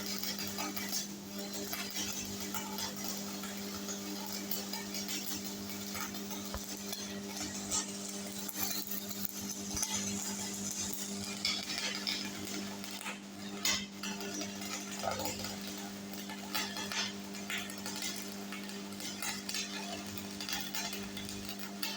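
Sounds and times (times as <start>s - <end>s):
welding arc crackling: 0.0s - 21.9s
welding machine hum: 0.0s - 21.9s.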